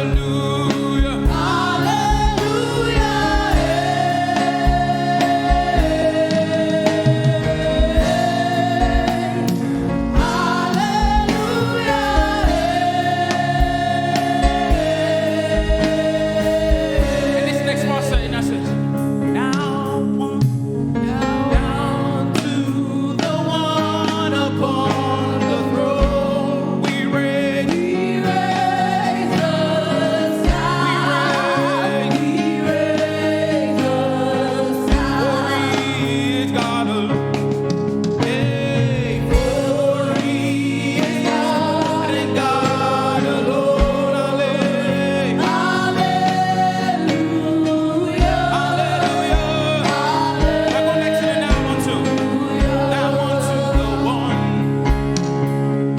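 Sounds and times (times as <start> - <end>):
instrumental backing: 0.0 - 55.9
voices singing together: 0.0 - 55.9.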